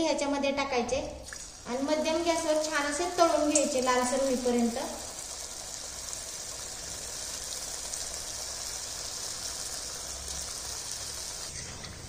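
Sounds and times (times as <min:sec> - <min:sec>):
oil sizzling: 0:01.2 - 0:12.0.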